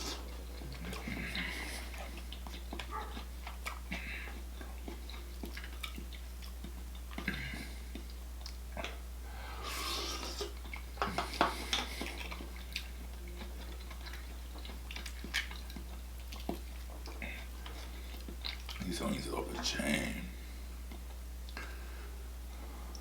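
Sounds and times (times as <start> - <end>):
wet chewing and slurping: 0.0 - 18.9
steady low hum: 0.0 - 23.0.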